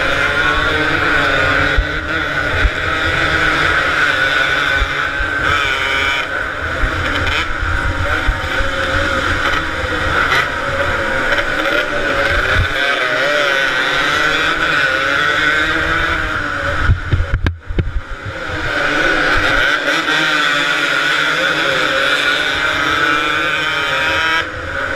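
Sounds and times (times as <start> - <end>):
two-stroke motorcycle engines racing: 0.0 - 24.9.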